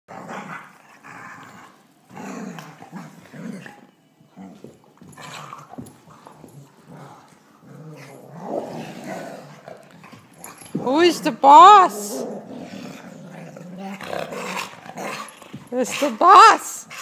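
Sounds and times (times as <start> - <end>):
dogs growling: 0.1 - 17.0.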